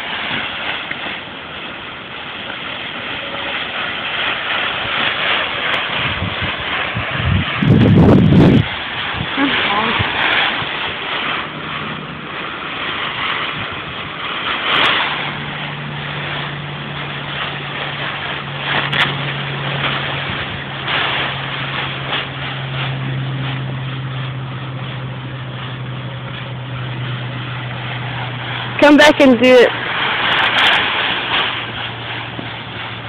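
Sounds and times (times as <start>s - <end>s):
foil blanket crinkling: 0.0s - 33.0s
steady engine hum: 0.0s - 33.0s.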